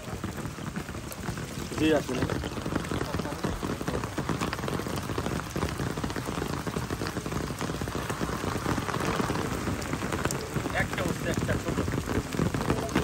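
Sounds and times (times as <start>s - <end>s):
rain falling on pond water: 0.0s - 13.0s.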